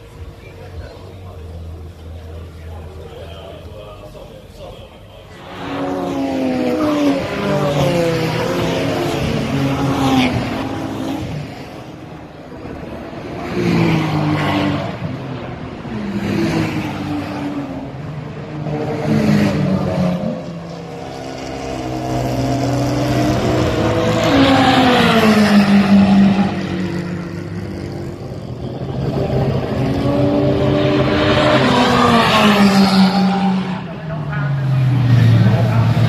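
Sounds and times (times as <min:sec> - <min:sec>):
race cars passing: 0:00.0 - 0:36.0.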